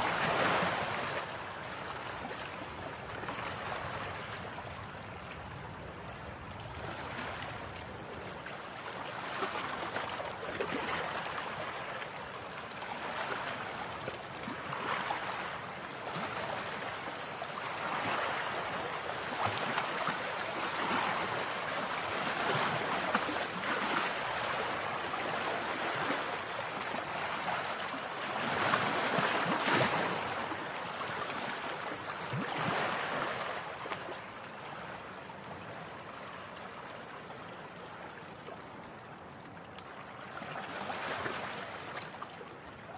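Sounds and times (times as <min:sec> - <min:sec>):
rushing water: 0:00.0 - 0:42.9.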